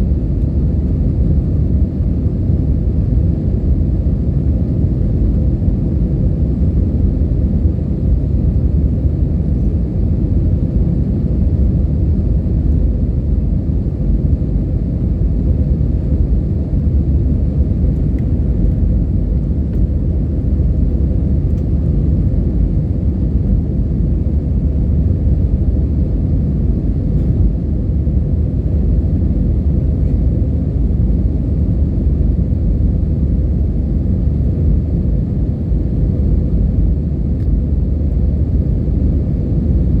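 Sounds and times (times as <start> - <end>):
engine and airflow rumble: 0.0 - 40.0.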